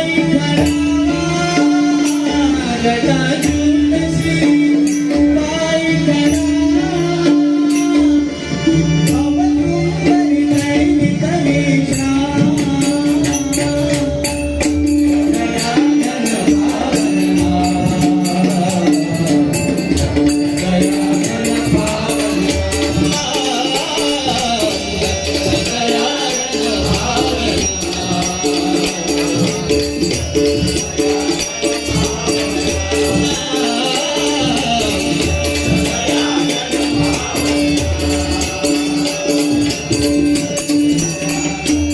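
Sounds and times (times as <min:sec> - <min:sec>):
jingling hand percussion: 0:00.0 - 0:41.9.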